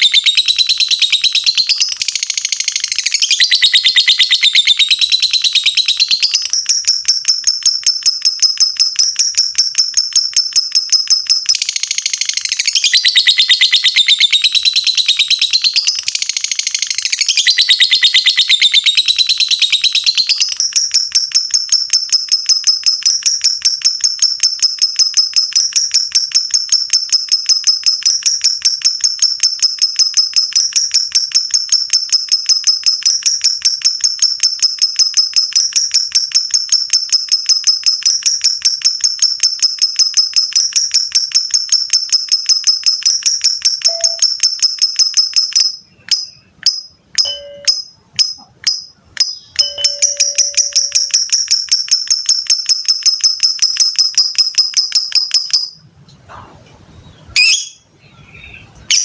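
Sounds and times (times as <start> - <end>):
bird chattering trill: 0.0 - 55.8, 57.2 - 59.0
bird chirps: 0.0 - 59.0.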